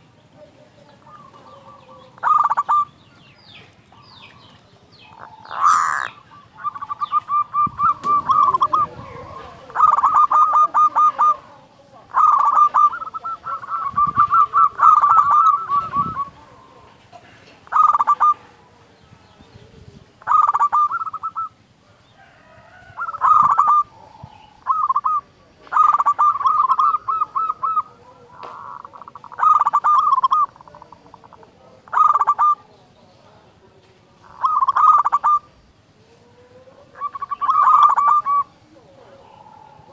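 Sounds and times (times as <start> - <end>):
dove cooing: 0.0 - 3.3, 3.9 - 39.9.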